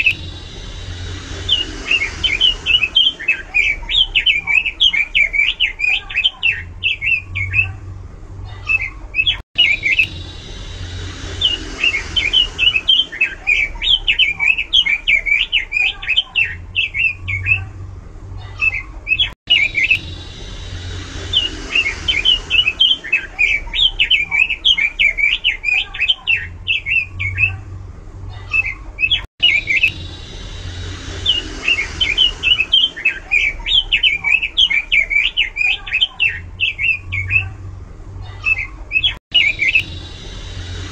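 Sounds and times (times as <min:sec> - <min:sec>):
bird singing chirping song: 0:00.0 - 0:07.8, 0:08.6 - 0:17.7, 0:18.6 - 0:27.6, 0:28.5 - 0:37.6, 0:38.4 - 0:40.9.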